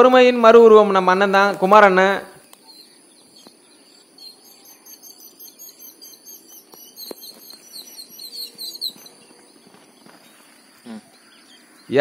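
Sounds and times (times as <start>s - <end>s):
birds chirping: 0.0s - 12.0s
insects trilling: 0.0s - 12.0s.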